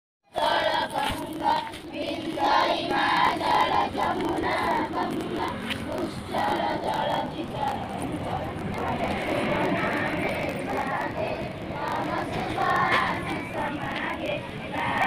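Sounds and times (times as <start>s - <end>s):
children chanting in unison: 0.3s - 15.0s.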